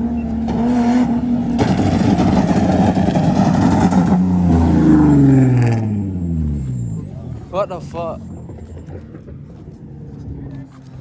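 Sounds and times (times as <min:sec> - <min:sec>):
car engine revving: 0:00.3 - 0:10.7.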